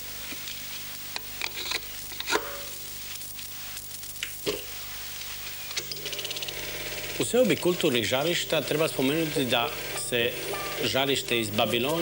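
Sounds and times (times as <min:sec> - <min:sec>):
mains hum: 0:00.0 - 0:12.0
steady hiss: 0:00.0 - 0:12.0.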